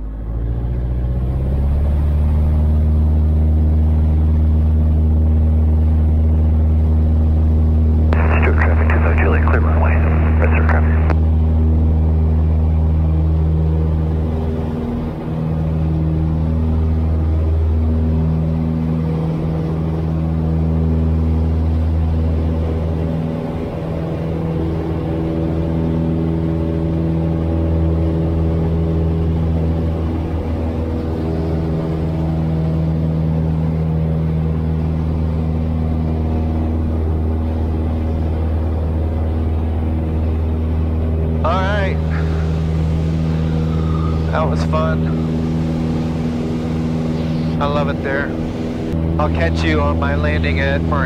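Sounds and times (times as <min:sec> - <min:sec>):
propeller plane engine droning: 0:00.0 - 0:51.0.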